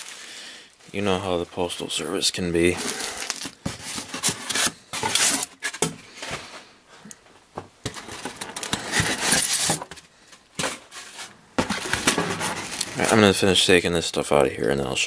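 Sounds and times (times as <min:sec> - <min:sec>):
bubble wrap and cardboard crinkling: 0:00.0 - 0:06.5, 0:07.8 - 0:13.6.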